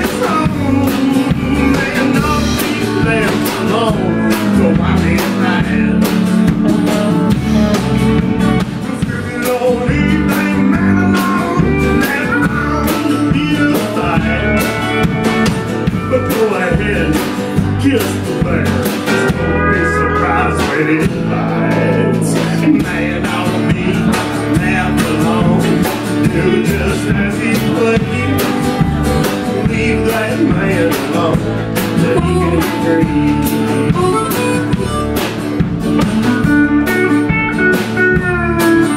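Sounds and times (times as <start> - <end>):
country blues band playing: 0.0 - 38.9.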